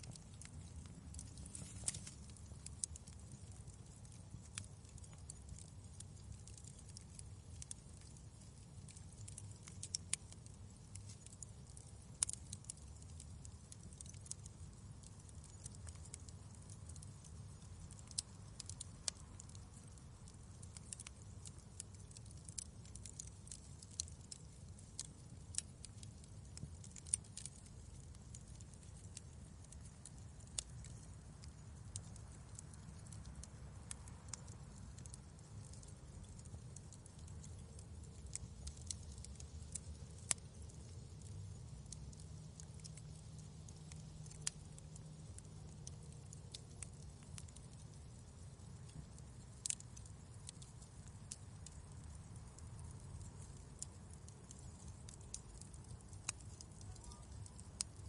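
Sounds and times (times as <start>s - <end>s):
low rumble of flames: 0.0s - 58.0s
wood fire crackling: 0.0s - 58.0s.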